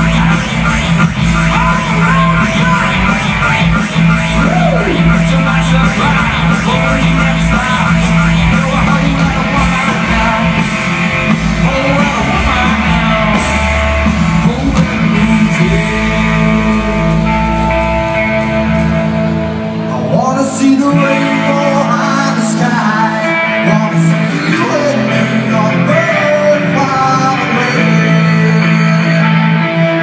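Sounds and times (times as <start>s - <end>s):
heavy bass line: 0.0s - 30.0s
live rock band playing: 0.0s - 30.0s.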